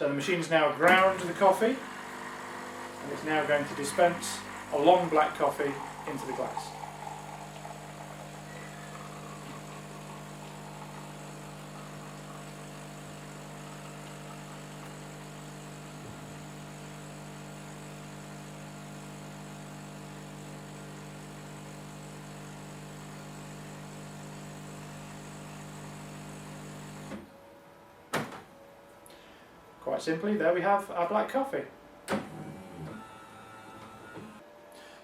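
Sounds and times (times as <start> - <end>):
coffee machine humming: 0.6 - 27.3, 32.1 - 34.4.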